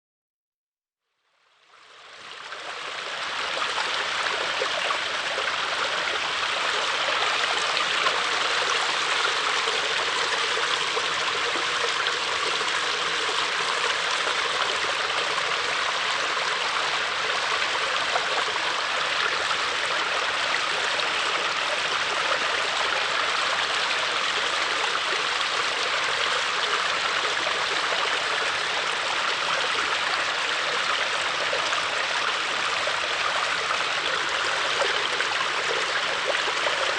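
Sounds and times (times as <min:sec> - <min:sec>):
water gurgling over stones: 0:01.9 - 0:36.9.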